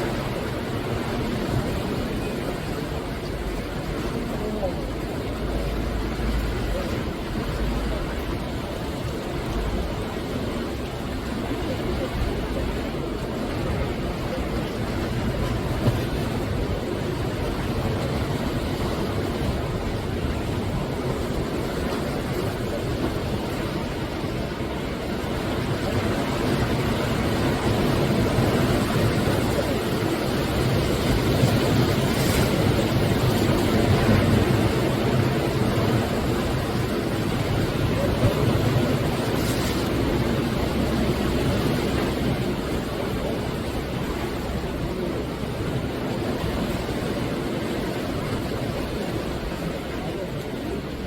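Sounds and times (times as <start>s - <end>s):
sea surf washing onto shore: 0.0s - 51.0s.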